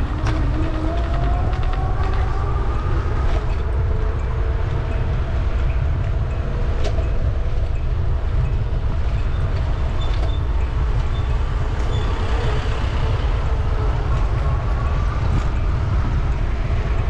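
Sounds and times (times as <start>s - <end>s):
heavy low rumble: 0.0s - 17.0s
rail vehicle motor whine: 0.0s - 17.0s.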